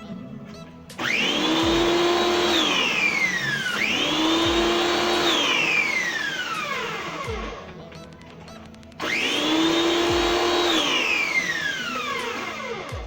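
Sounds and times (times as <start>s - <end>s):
pressure washer motor whine: 1.0s - 7.9s, 9.0s - 13.0s.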